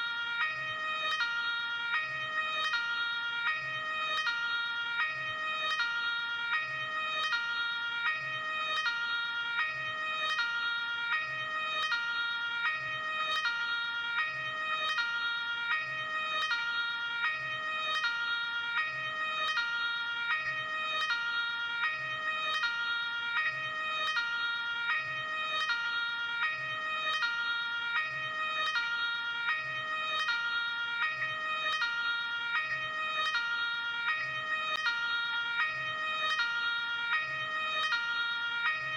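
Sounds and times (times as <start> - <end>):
two-tone ambulance siren: 0.0 - 38.9.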